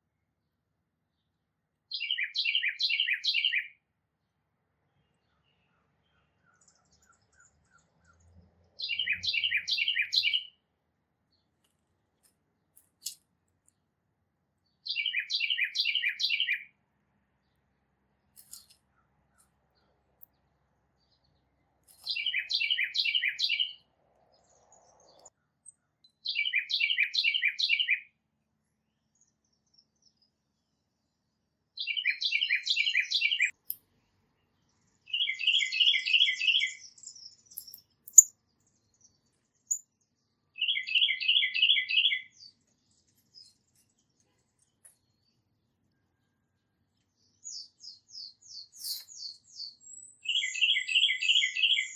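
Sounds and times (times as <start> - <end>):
songbird singing: 0.0 - 28.2, 28.8 - 51.9.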